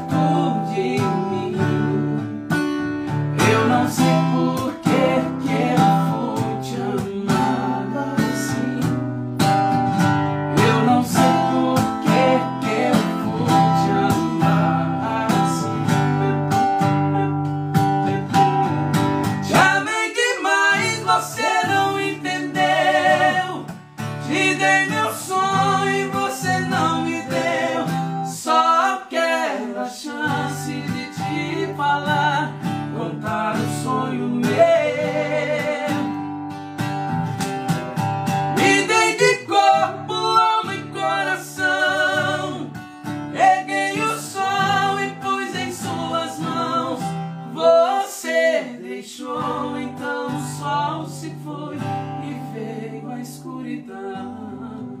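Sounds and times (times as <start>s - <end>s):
two men singing: 0.0s - 2.5s, 3.3s - 9.2s, 10.5s - 36.2s, 38.5s - 55.0s
acoustic guitar: 0.0s - 55.0s.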